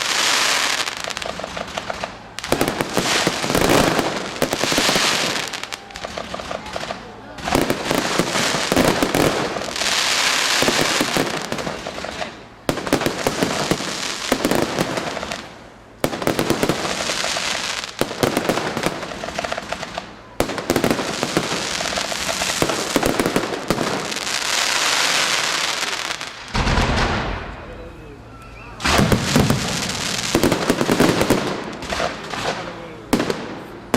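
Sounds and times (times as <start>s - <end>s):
fireworks crackling: 0.0s - 33.9s.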